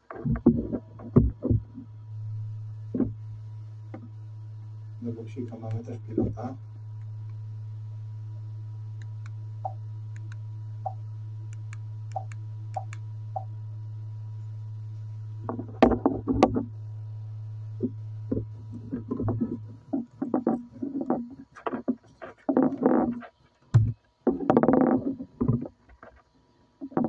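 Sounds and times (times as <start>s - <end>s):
projector electrical hum: 0.0s - 27.0s.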